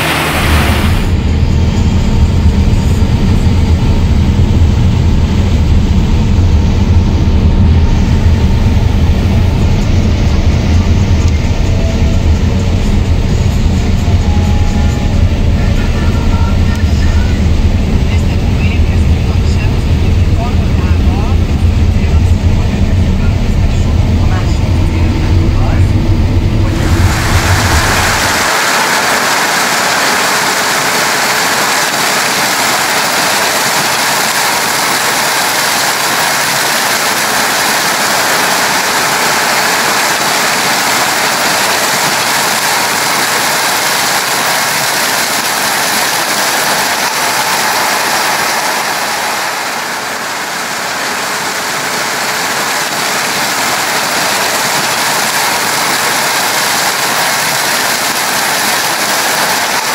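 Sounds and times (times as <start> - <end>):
combine harvester mechanical din: 0.0 - 59.9.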